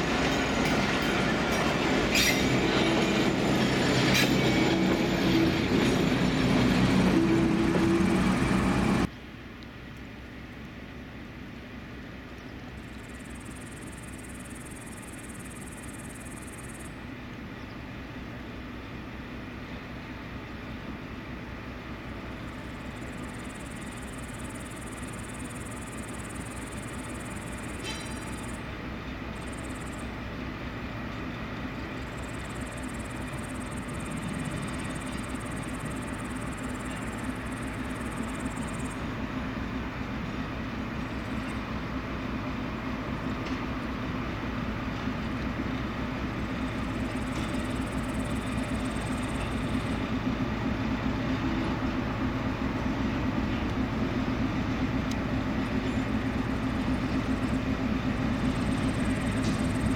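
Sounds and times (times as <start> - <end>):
locomotive engine rumble: 0.0 - 14.4, 16.9 - 59.9.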